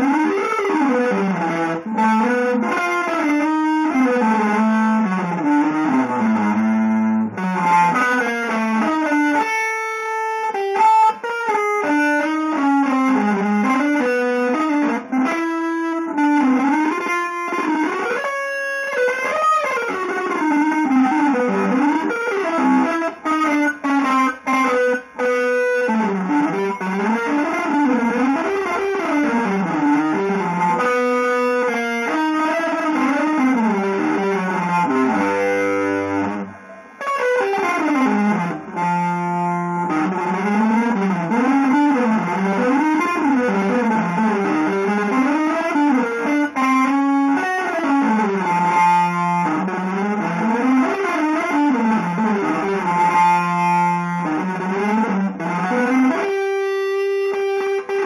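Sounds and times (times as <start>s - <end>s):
electric guitar solo: 0.0s - 58.0s.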